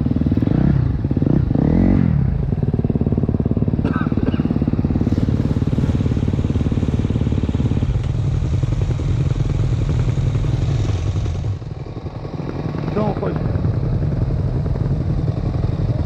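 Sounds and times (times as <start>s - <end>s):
small engine running: 2.9s - 16.0s.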